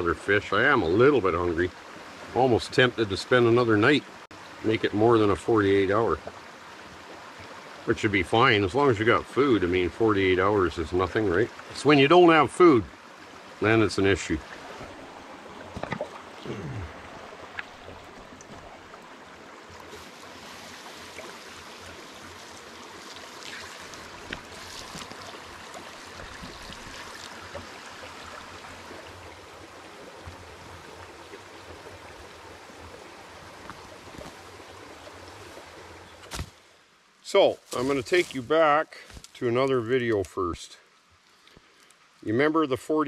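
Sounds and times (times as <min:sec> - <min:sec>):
creek running over rocks: 0:00.0 - 0:43.0.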